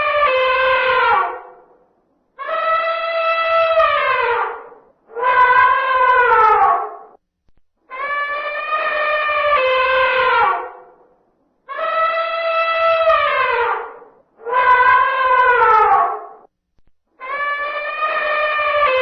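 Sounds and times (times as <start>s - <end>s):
elephant trumpeting: 0.0s - 1.6s, 2.4s - 7.2s, 7.9s - 11.0s, 11.7s - 16.5s, 17.2s - 19.0s.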